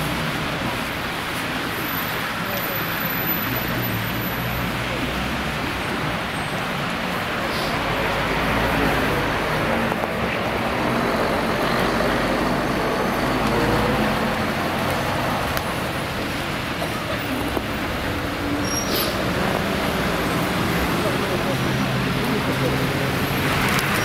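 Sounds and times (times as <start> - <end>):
cars and buses on road: 0.0 - 24.0.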